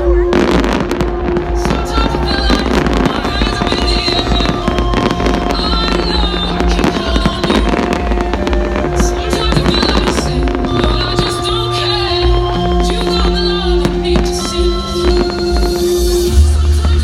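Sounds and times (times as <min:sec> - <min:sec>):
electronic dance music: 0:00.0 - 0:17.0
fireworks bursting and crackling: 0:00.0 - 0:17.0.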